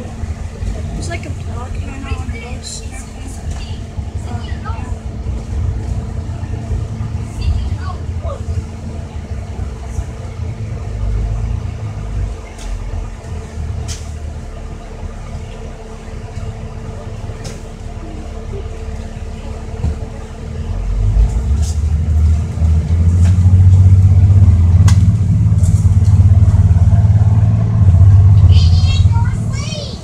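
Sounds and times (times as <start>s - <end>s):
bus engine and road rumble: 0.0s - 30.0s
constant hum: 0.0s - 30.0s.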